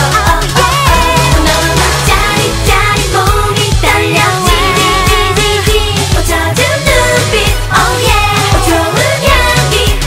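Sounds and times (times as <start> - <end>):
electronic dance beat: 0.0 - 9.4
female group singing: 0.0 - 10.0.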